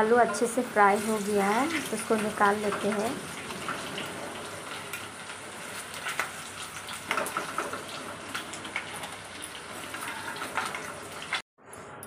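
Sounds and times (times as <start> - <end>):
oil sizzling: 0.0 - 11.4.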